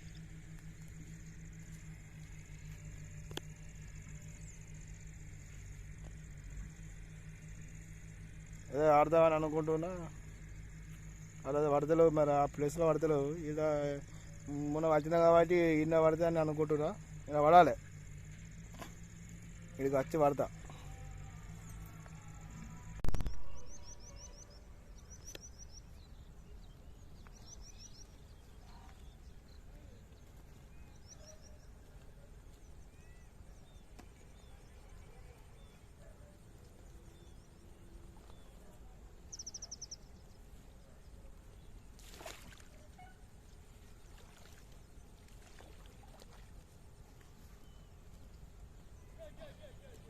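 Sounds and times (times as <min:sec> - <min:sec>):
birds chirping trills: 0:00.0 - 0:50.0.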